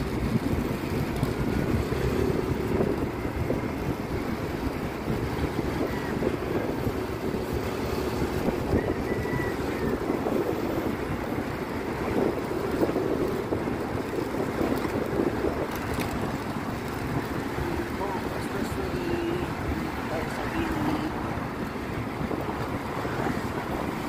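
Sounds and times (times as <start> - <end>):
motorcycle rumble: 0.0 - 24.0
tyres on concrete road: 0.0 - 24.0
wind buffeting microphone: 0.0 - 24.0.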